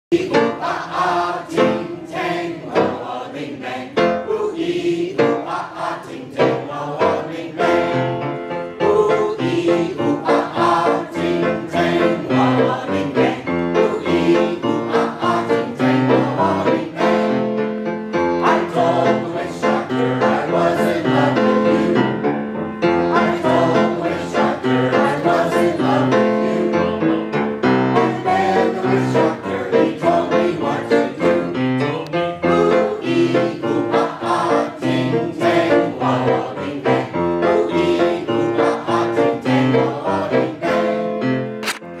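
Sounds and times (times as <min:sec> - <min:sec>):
mixed choir singing: 0:00.1 - 0:41.3
piano accompaniment: 0:00.1 - 0:42.0.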